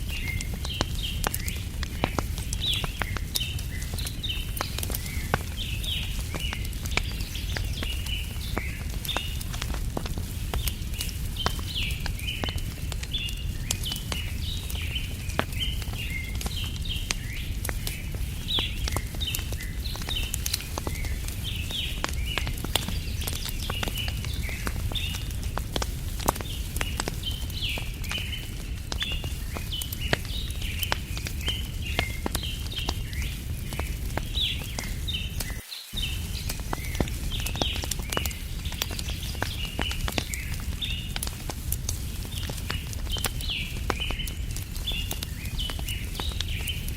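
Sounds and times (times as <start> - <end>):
campfire crackling and popping: 0.0 - 46.9
small birds chirping: 0.0 - 46.9.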